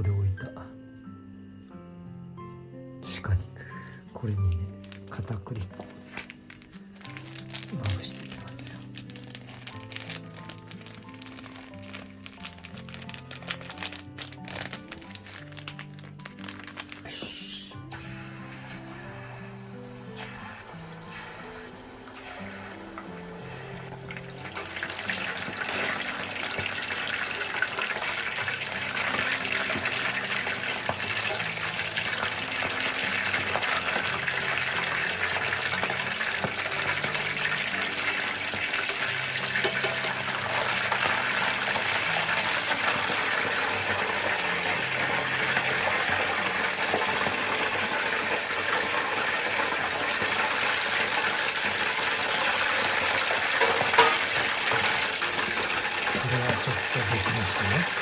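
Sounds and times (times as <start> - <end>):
meat deep-frying in hot oil: 6.1 - 58.0.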